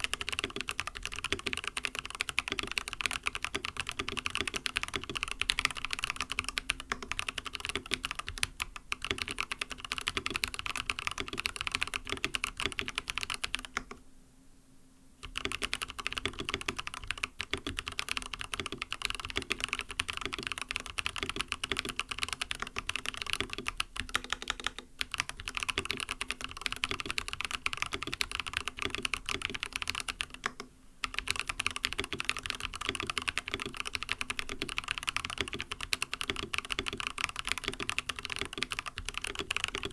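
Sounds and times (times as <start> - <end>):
fast typing on keyboard: 0.0 - 14.0, 15.2 - 39.9.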